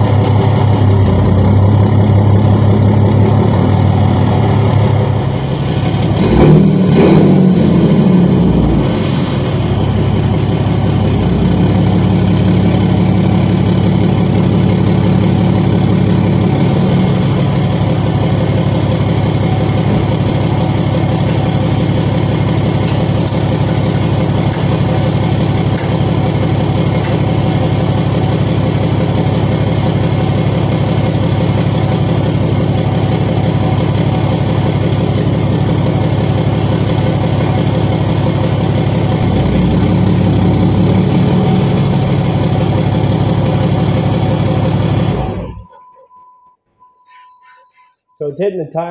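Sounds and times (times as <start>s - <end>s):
engine knocks: 0.0s - 45.5s
diesel engine idling: 0.0s - 45.8s.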